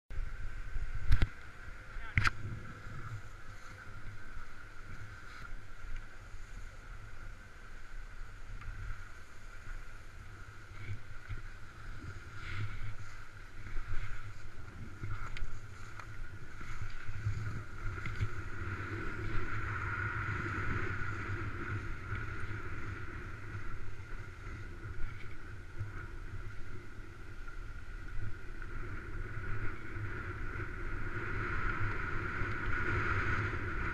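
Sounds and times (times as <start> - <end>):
wind on microphone: 0.1 - 33.9
skis scraping on snow: 0.5 - 33.9.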